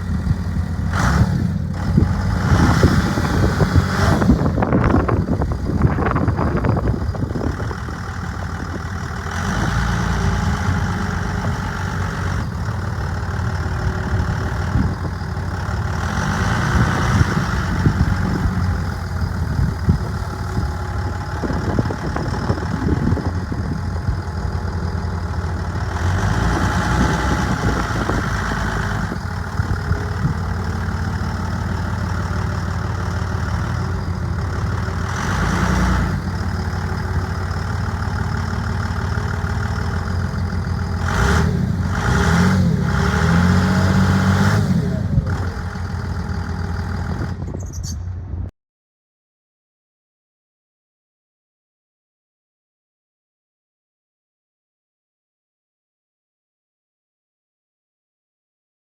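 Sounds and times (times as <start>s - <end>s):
diesel engine idling: 0.0s - 47.5s.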